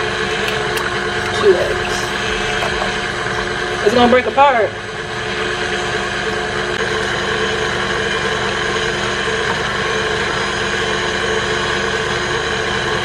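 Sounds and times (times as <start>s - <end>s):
electric mixer running: 0.0s - 13.0s.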